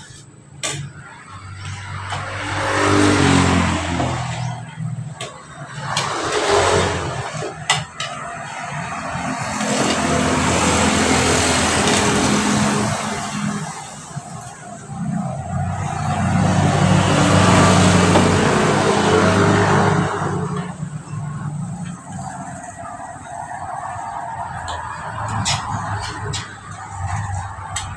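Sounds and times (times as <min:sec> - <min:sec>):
motor vehicles passing by: 0:00.8 - 0:27.9.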